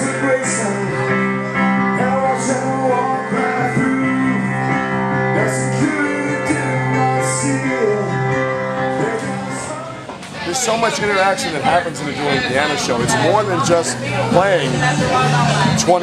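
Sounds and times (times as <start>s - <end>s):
live instrumental accompaniment: 0.0s - 16.0s
person singing: 0.0s - 16.0s.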